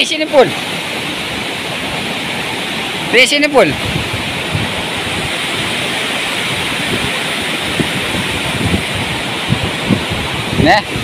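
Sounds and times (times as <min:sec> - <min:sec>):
waterfall rushing over rock: 0:00.0 - 0:11.0.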